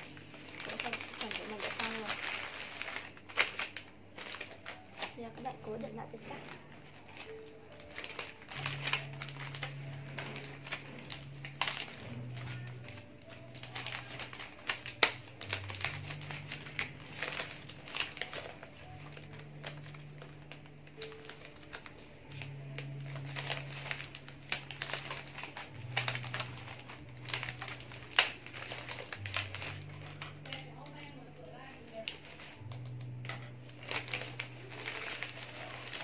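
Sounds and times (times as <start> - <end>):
paper crackles: 0.0 - 36.0
wrapping paper crinkling: 0.0 - 36.0.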